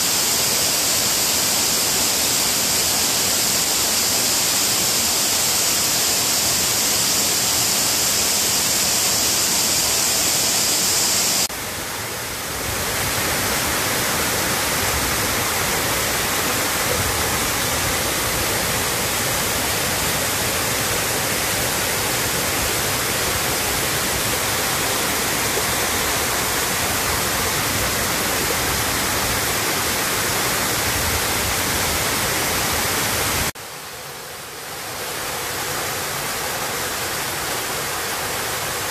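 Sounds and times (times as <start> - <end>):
waterfall rushing over rock: 0.0 - 38.9.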